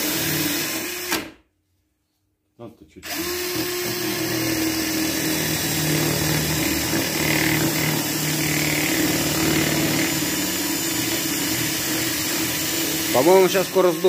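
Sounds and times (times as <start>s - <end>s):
drill bit grinding into wood: 0.0s - 1.3s, 3.1s - 14.0s.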